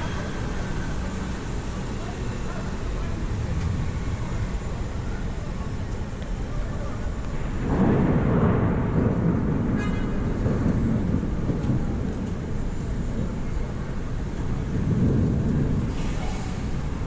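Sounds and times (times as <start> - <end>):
wind and rain rushing: 0.0 - 17.0.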